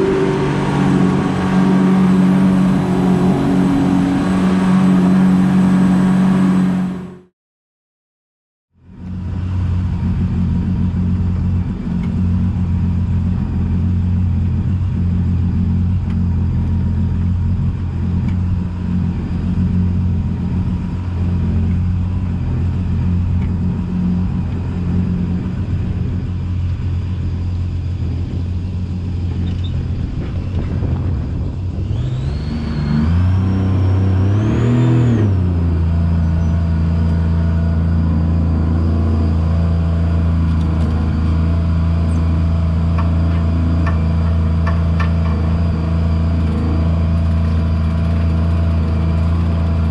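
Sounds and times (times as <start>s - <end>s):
engine running and revving: 0.0s - 7.3s, 8.8s - 49.9s.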